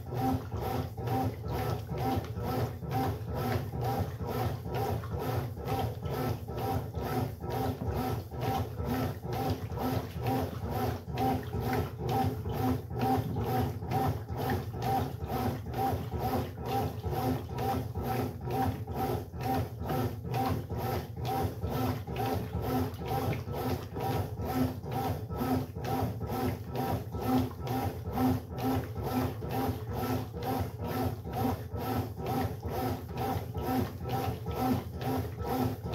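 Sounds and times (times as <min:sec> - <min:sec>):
washing machine running: 0:00.0 - 0:35.9.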